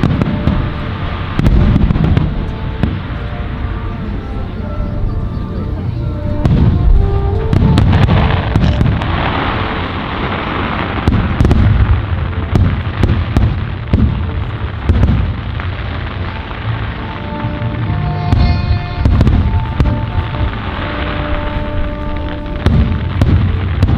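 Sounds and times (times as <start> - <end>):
firework shells booming: 0.0 - 23.9.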